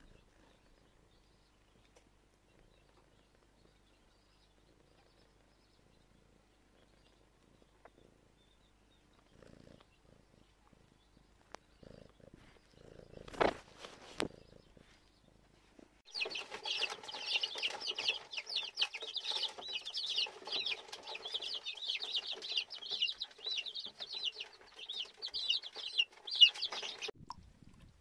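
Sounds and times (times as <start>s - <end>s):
young chickens peeping: 0.0s - 28.0s.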